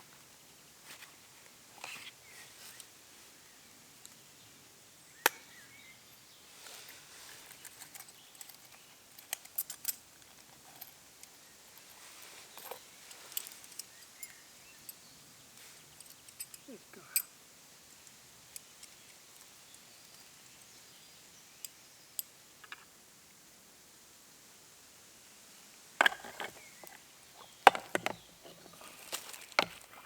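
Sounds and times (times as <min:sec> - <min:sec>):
faint outdoor background: 0:00.0 - 0:30.0.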